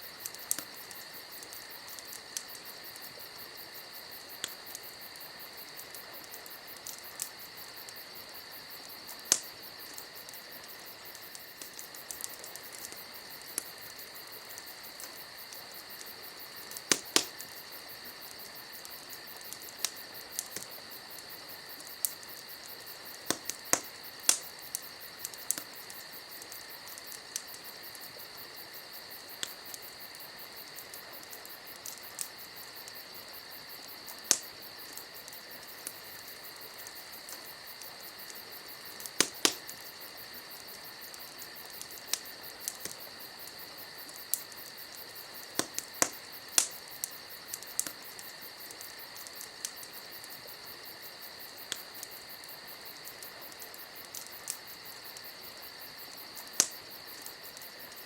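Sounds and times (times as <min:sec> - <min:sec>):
campfire crackling: 0:00.0 - 0:58.0
crickets chirping: 0:00.0 - 0:58.0.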